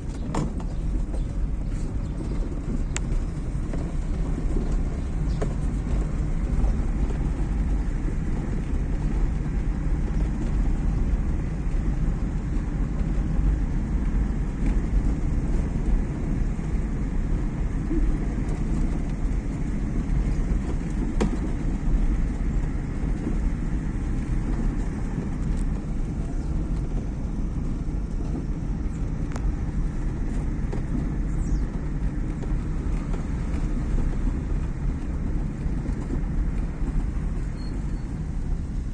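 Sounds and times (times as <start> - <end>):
car engine running: 0.0 - 38.9
tyres rumbling: 0.0 - 38.9.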